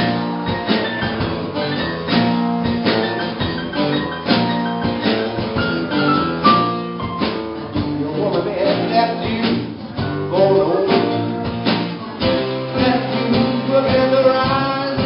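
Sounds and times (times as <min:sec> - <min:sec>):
drum beat: 0:00.0 - 0:15.0.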